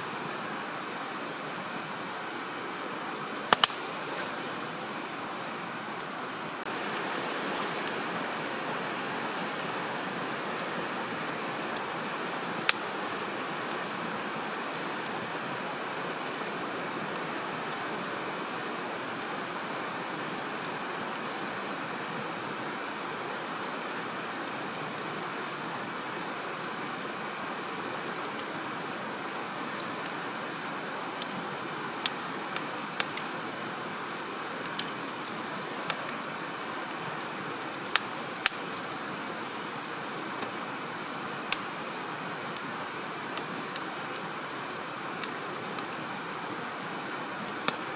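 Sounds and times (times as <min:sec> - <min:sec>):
fire crackling and popping: 0:00.0 - 0:47.9
hiss of campfire flames: 0:00.0 - 0:47.9.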